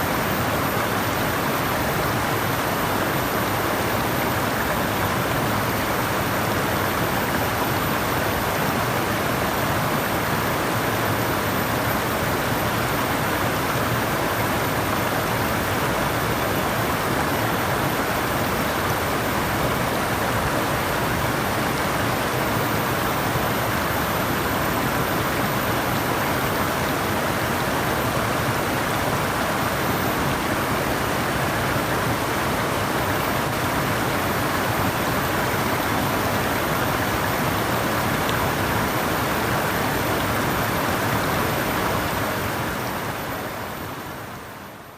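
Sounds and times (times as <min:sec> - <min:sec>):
flowing water rushing: 0:00.0 - 0:44.9.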